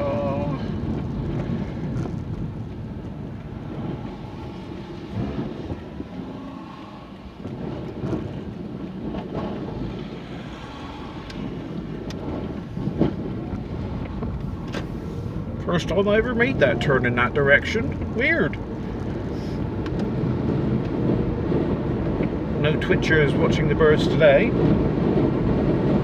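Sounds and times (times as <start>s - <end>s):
car engine and road rumble: 0.0s - 26.0s
wind buffeting: 0.0s - 26.0s.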